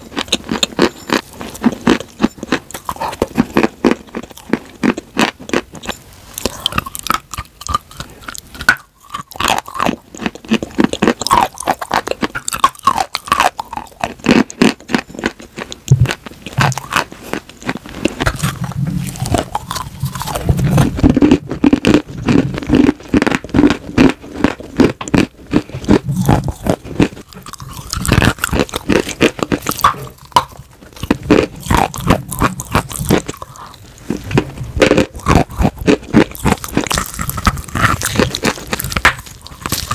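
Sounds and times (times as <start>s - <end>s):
crunching and chewing chalk: 0.0s - 39.9s.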